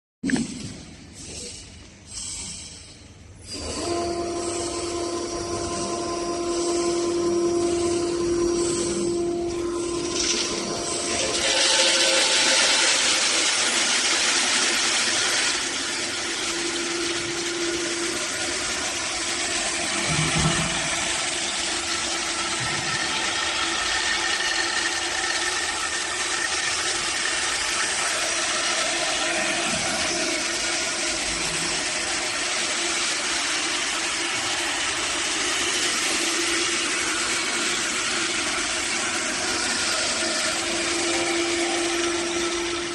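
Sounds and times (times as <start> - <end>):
machine motor hum: 3.4 - 42.9.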